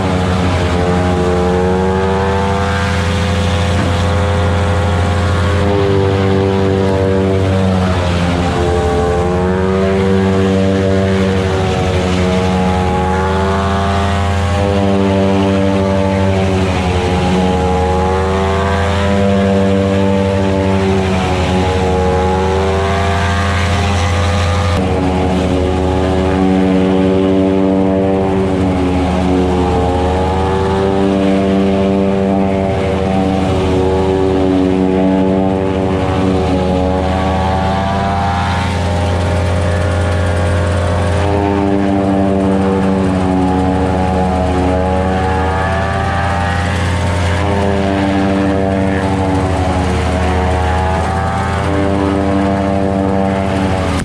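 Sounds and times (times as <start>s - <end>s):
engine drone under load: 0.0s - 54.0s
silage cutter running: 0.0s - 54.0s.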